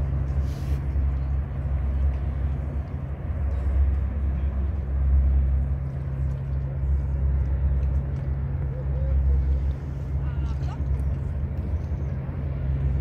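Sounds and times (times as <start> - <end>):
barge engine droning: 0.0 - 13.0.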